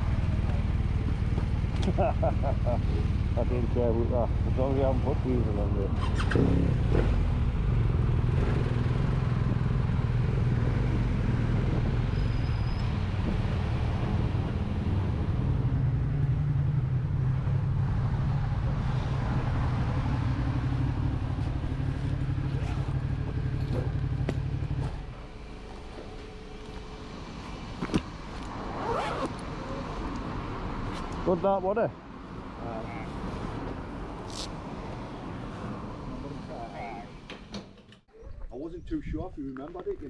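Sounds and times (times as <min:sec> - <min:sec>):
vehicle engine humming: 0:00.0 - 0:37.3.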